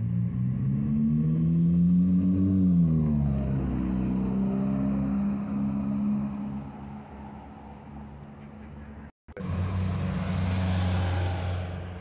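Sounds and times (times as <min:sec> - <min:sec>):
car engine driving by: 0:00.0 - 0:12.0.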